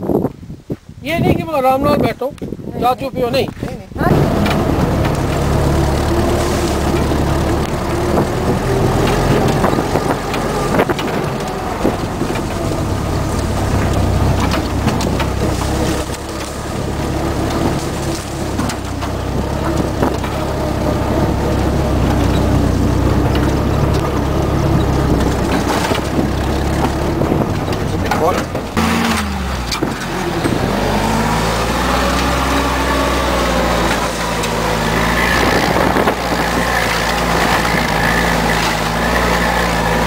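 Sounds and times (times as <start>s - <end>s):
jeep engine running: 3.1s - 40.0s
clunks and rattles: 3.5s - 40.0s.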